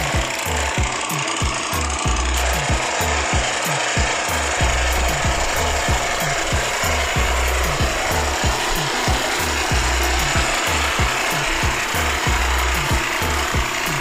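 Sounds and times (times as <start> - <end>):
model engine water pump running: 0.0 - 14.0.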